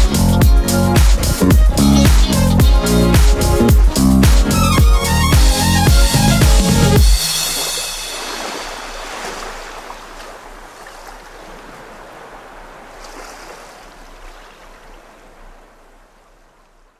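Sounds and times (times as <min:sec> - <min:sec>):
sea waves washing: 0:00.0 - 0:16.8.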